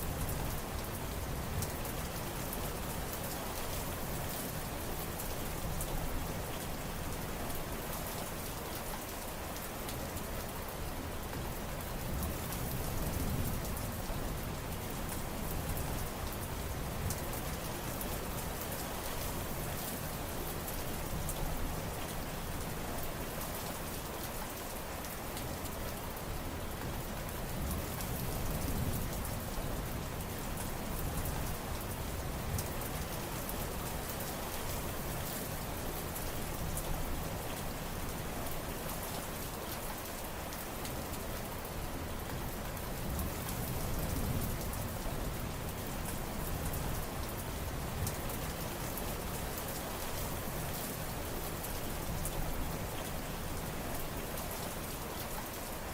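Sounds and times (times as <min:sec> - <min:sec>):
heavy rain on surfaces: 0:00.0 - 0:55.9.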